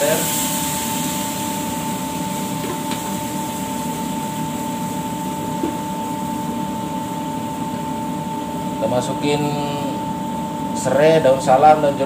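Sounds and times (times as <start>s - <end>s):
kitchen machinery humming: 0.0s - 12.0s.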